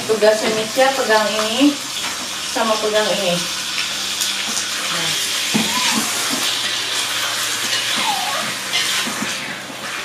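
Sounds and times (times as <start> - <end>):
chicken and onion sizzling in wok: 0.0 - 10.0.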